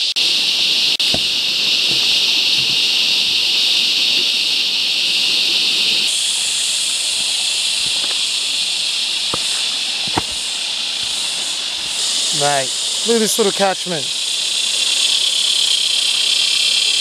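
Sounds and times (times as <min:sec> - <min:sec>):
cicada chorus droning: 0:00.0 - 0:17.0.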